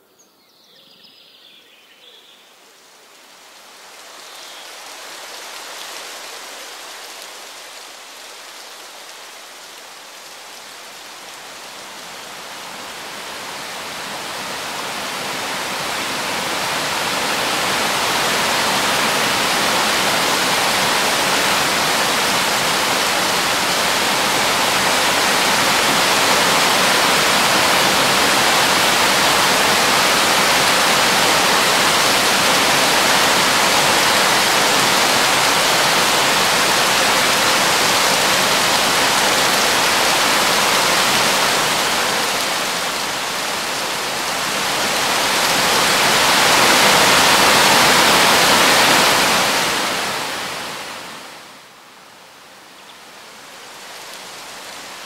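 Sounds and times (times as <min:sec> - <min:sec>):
waterfall rushing: 0:02.4 - 0:51.8.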